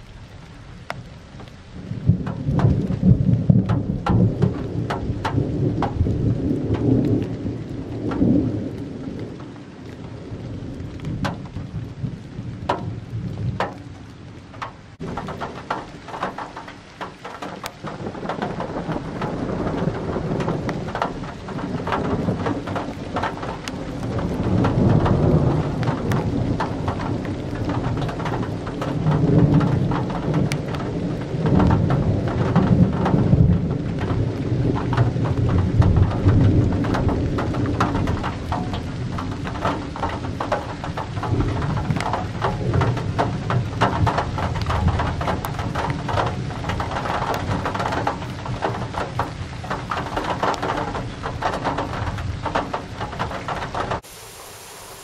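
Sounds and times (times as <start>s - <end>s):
rain falling: 0.0s - 55.0s
raindrops ticking close by: 0.0s - 55.0s
rolling thunder: 1.8s - 54.0s.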